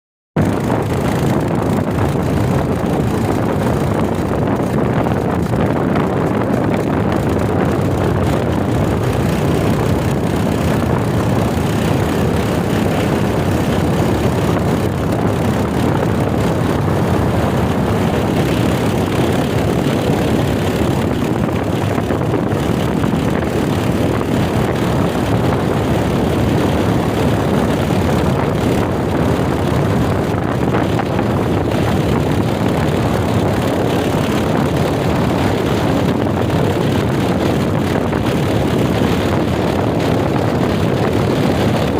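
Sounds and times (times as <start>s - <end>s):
motorcycle engine running: 0.4s - 41.9s.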